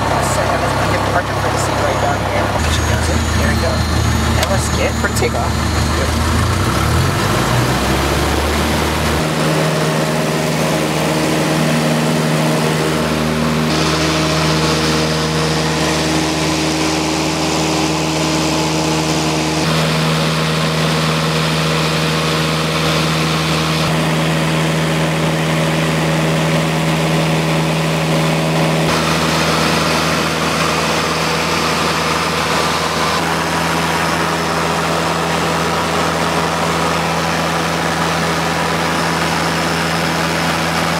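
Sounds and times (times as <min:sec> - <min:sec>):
small plane engine and propeller: 0:00.0 - 0:40.9.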